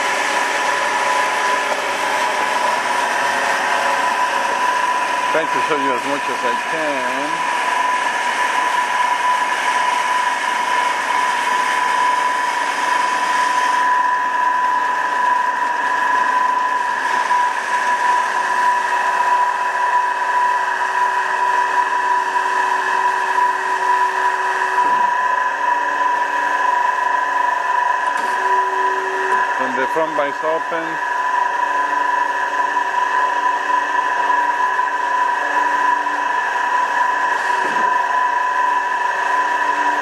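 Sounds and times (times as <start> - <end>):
band saw whining: 0.0 - 40.0.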